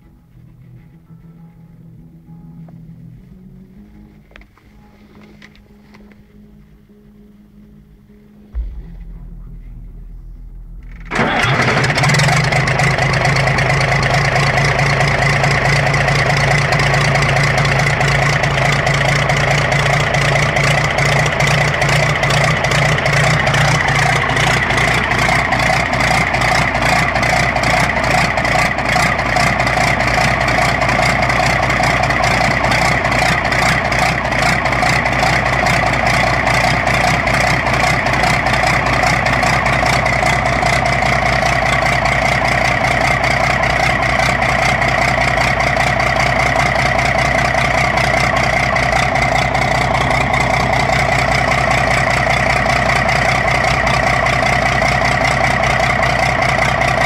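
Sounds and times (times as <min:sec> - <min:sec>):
diesel engine running loudly: 0:10.4 - 0:57.0
engine starter turning: 0:10.9 - 0:57.0.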